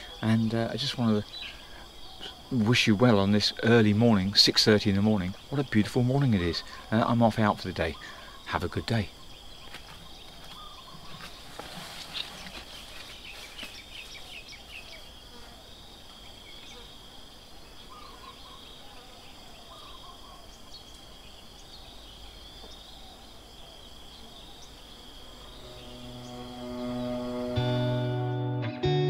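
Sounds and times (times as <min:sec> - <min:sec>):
high-pitched insect trill: 0:00.0 - 0:28.3.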